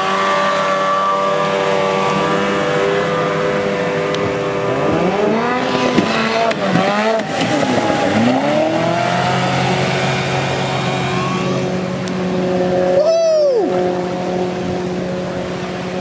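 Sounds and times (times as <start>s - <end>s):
outboard motor at high revs: 0.0s - 16.0s
rushing water: 0.0s - 16.0s.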